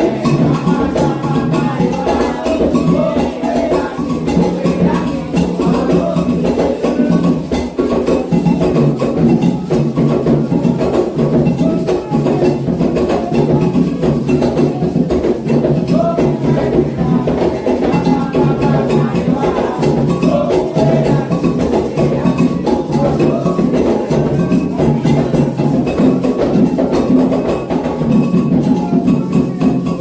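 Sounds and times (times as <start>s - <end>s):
hand drums: 0.0s - 30.0s
struck bell: 0.0s - 30.0s.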